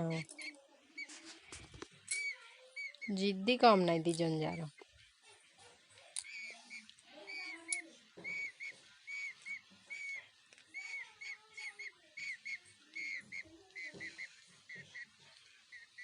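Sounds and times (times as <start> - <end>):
parrot chirping: 0.0 - 3.3, 4.2 - 16.0.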